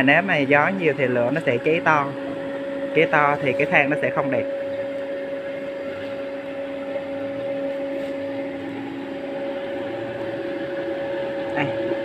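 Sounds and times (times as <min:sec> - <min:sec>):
electric blower humming: 0:00.0 - 0:12.0.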